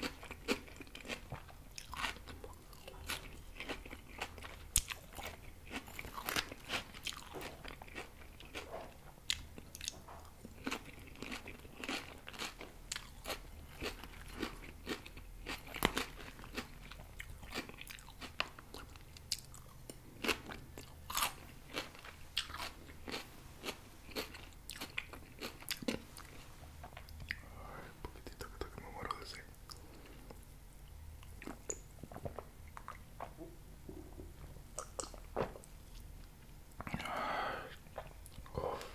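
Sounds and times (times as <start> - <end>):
chewing crisp salad: 0.0 - 33.4, 34.0 - 37.0.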